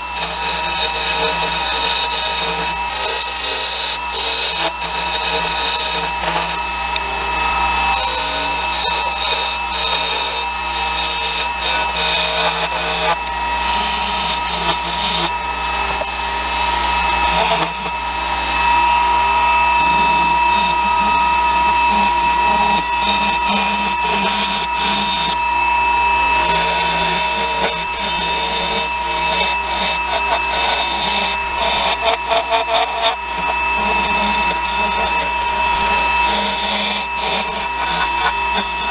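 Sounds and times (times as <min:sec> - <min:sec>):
tool scraping spinning wood: 0:00.0 - 0:38.9
wood lathe whining: 0:00.0 - 0:38.9.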